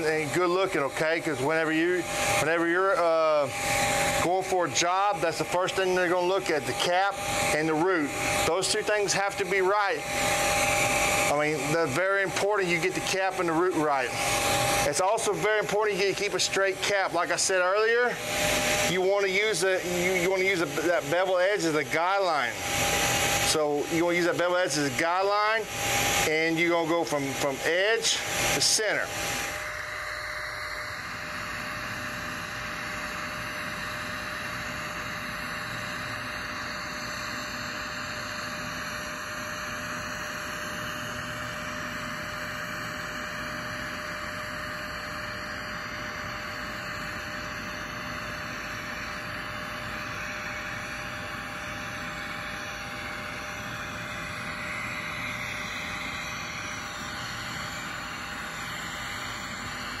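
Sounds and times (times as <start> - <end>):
welding arc hissing: 0.0 - 60.0.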